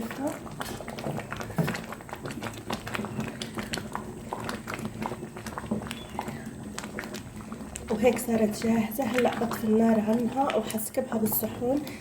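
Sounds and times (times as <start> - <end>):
thick stew bubbling and popping: 0.0 - 12.0.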